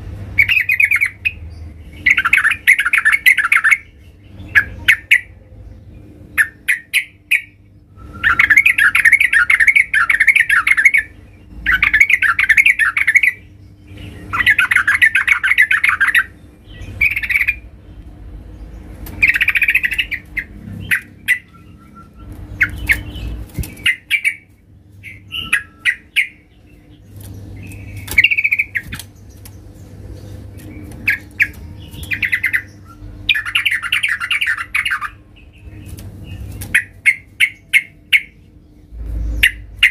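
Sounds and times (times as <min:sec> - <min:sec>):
bulbul singing: 0:00.1 - 0:39.9.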